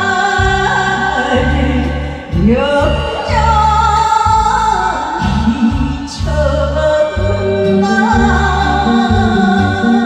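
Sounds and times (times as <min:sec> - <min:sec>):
backing track with bass: 0:00.0 - 0:10.0
person singing: 0:00.0 - 0:10.0.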